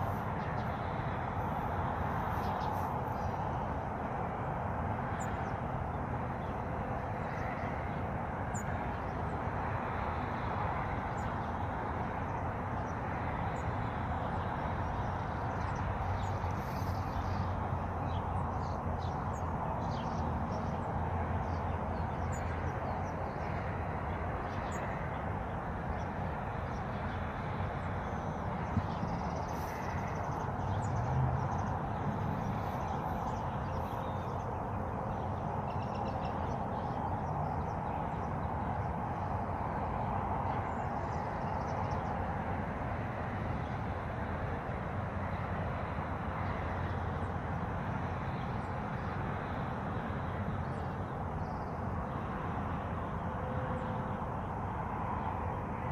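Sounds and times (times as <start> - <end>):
steady rushing noise: 0.0 - 55.9.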